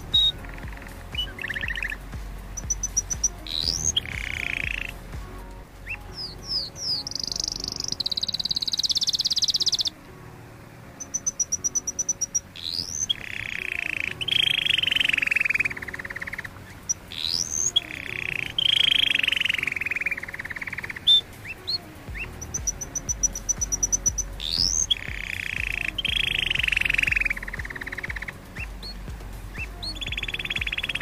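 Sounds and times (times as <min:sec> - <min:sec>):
canary singing: 0:00.0 - 0:10.0, 0:10.8 - 0:31.0.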